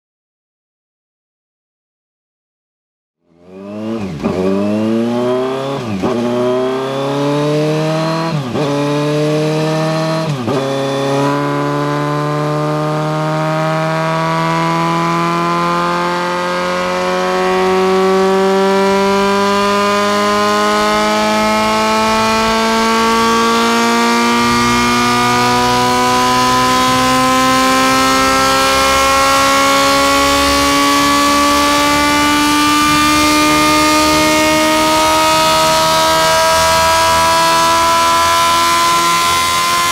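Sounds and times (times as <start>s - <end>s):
motorcycle engine accelerating: 3.2s - 39.9s.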